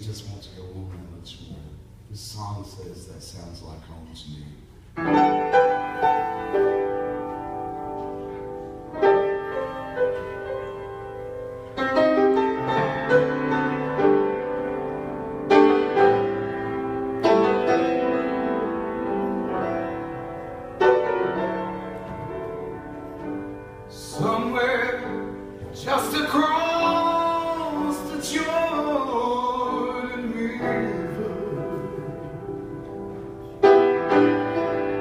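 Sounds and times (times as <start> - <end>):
gospel piano chords ringing: 0.0 - 35.0.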